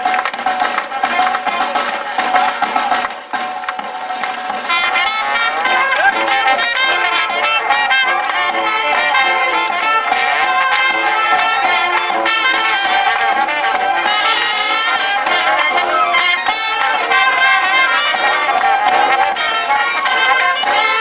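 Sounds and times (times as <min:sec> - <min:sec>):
band playing live music: 0:00.0 - 0:21.0
brass notes: 0:00.0 - 0:21.0.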